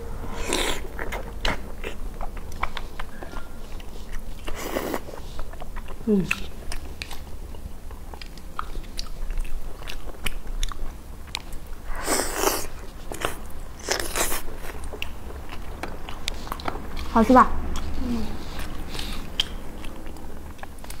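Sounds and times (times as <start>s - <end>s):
person chewing meat: 0.3s - 21.0s.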